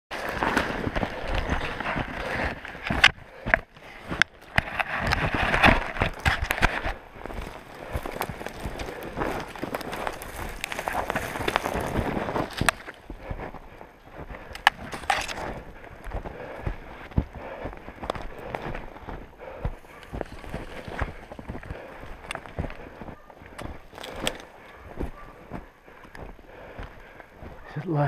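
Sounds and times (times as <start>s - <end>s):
footsteps crunching through snow: 0.1s - 28.0s.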